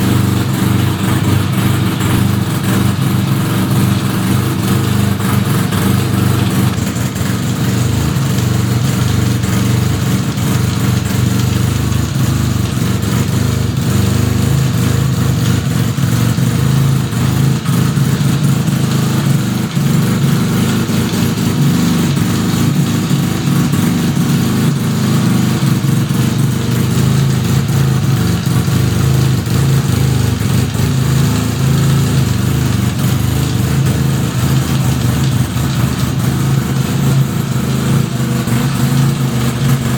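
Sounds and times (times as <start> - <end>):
rotary engine running: 0.0 - 39.9.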